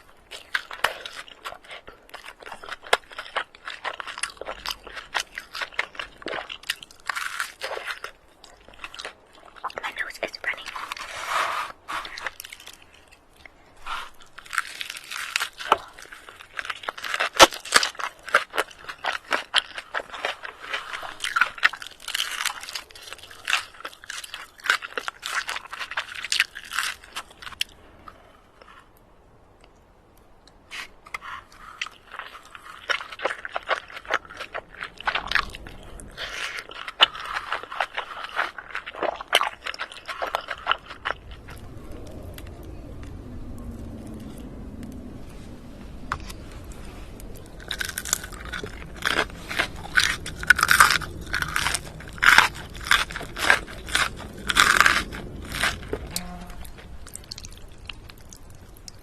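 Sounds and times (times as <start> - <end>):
person chewing crunchy food: 0.0 - 29.0, 30.5 - 59.0.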